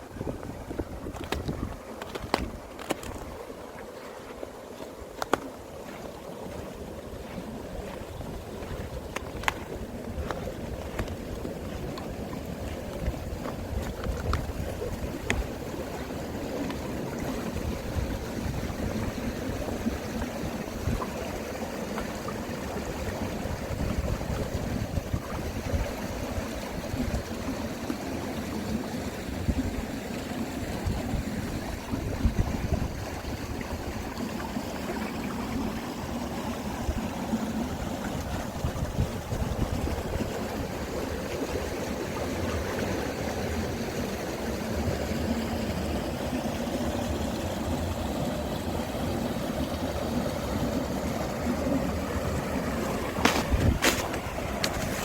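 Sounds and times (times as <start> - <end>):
wind rumbling on microphone: 0.0 - 43.0, 50.8 - 55.0
stream water rushing: 0.0 - 55.0.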